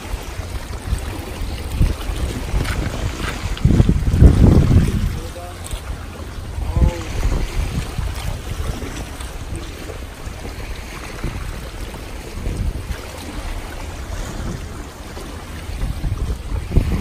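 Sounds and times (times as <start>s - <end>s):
sea water washing on shore: 0.0s - 17.0s
wind buffeting microphone: 0.0s - 17.0s.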